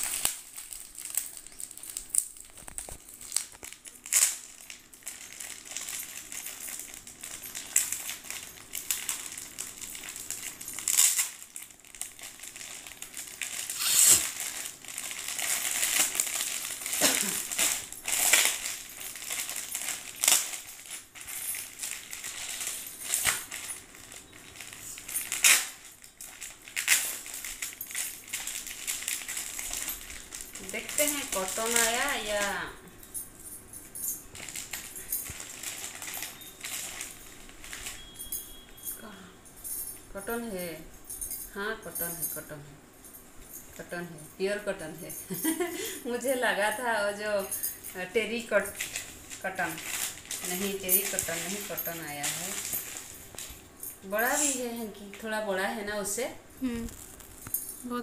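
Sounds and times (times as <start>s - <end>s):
plastic packaging crinkling: 0.0s - 32.7s, 34.0s - 39.2s, 45.4s - 55.7s, 56.6s - 57.8s.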